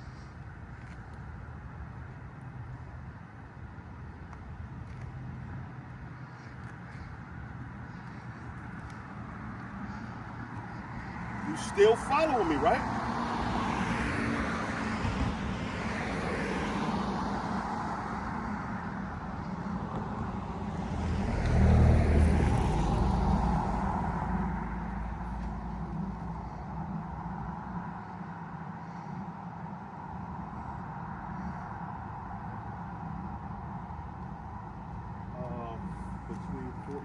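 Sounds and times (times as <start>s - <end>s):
vehicles driving past: 0.0s - 37.0s.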